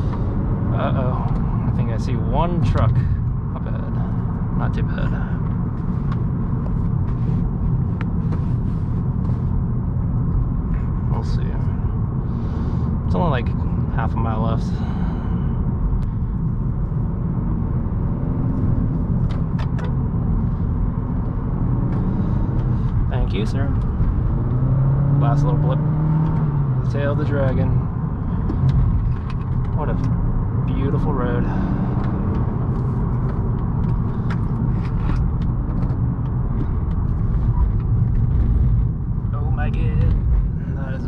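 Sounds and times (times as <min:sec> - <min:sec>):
car engine rumble: 0:00.0 - 0:41.0
road and wind noise: 0:00.0 - 0:41.0.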